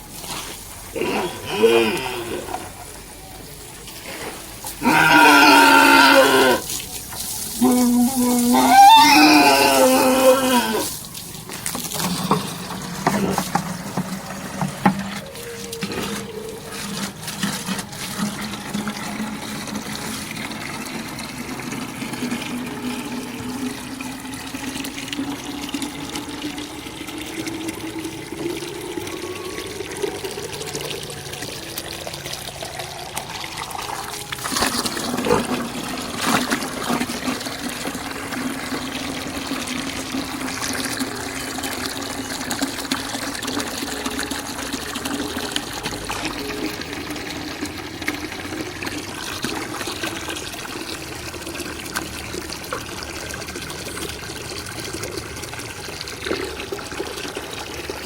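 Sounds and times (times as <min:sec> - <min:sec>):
water running and splashing: 0:00.0 - 0:58.0.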